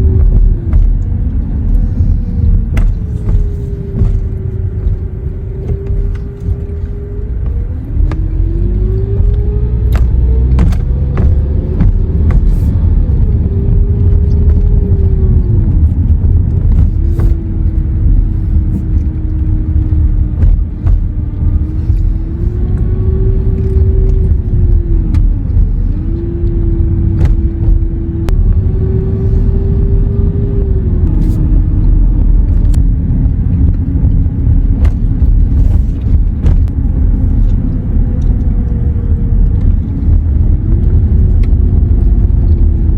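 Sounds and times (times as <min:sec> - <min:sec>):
vehicle engine revving: 0:00.0 - 0:42.9.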